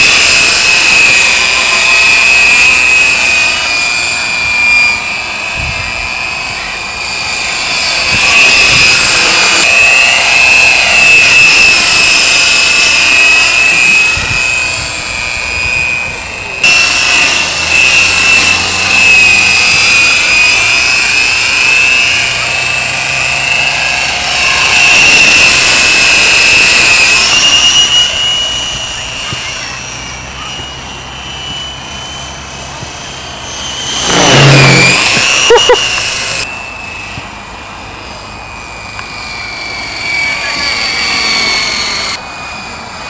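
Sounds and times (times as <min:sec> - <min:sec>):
rc helicopter motor whine: 0:00.0 - 0:43.0.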